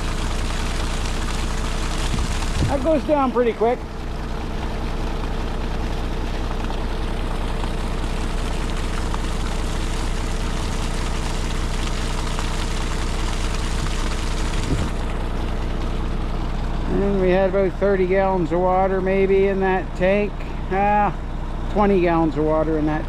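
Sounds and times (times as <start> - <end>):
steady low hum: 0.0 - 23.0
water rushing through a hose: 0.0 - 23.0.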